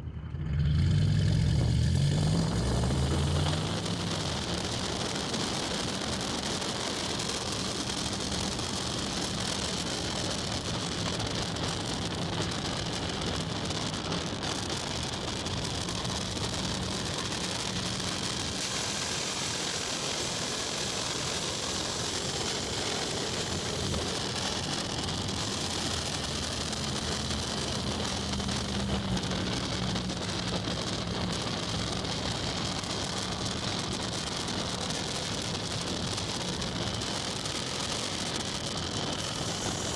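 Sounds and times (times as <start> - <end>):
car engine hum: 0.0 - 39.9
road and wind noise: 0.0 - 39.9.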